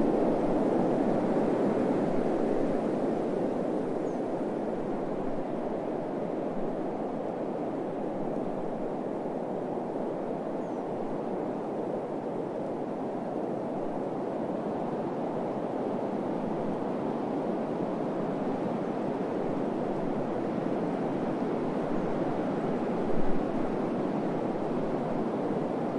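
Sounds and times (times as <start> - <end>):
low rushing wind: 0.0 - 25.9.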